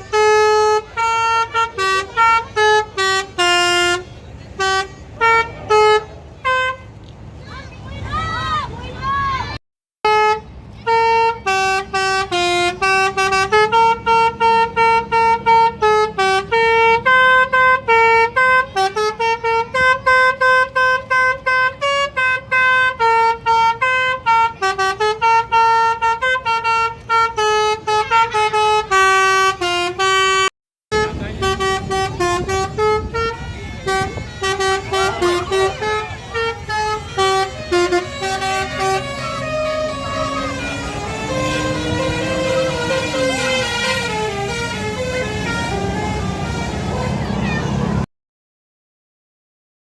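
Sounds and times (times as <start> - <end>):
bus horn playing fast tune: 0.0 - 7.0, 10.0 - 48.0.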